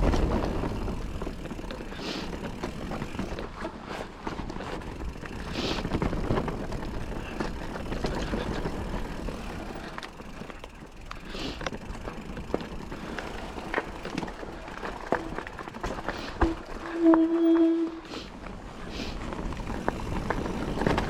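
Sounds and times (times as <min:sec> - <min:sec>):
bike tyres rolling on loose dirt: 0:00.0 - 0:21.0
clicks and knocks from bike: 0:00.0 - 0:21.0.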